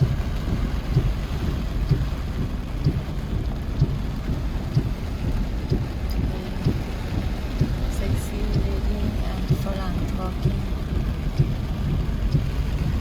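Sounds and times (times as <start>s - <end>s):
rain and wind on microphone: 0.0s - 13.0s.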